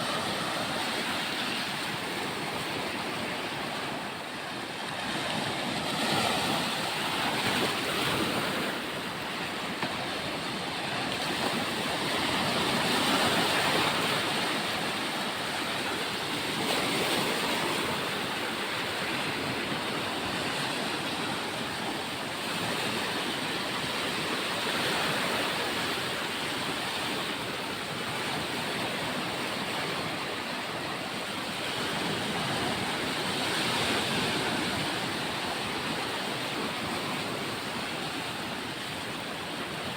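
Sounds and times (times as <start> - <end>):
sea surf washing onto beach: 0.0 - 39.9.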